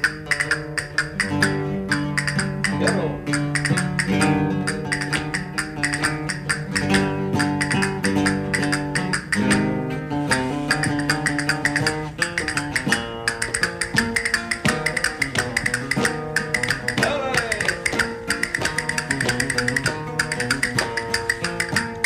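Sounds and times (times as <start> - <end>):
flamenco acoustic guitar: 0.0 - 22.0.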